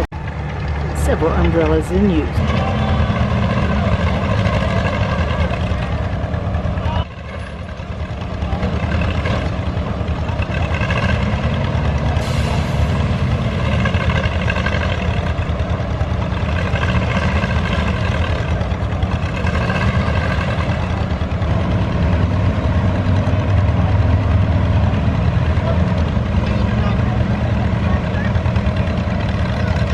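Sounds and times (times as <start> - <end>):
tractor engine idling: 0.0 - 29.9.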